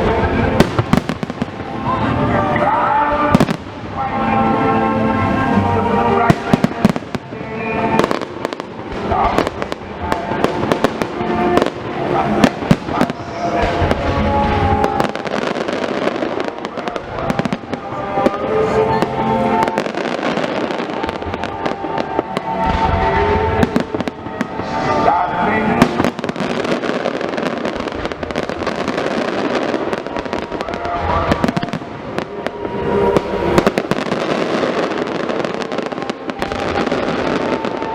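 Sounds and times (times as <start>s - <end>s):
fireworks bangs and crackles: 0.0s - 37.9s
music with held notes: 0.0s - 37.9s.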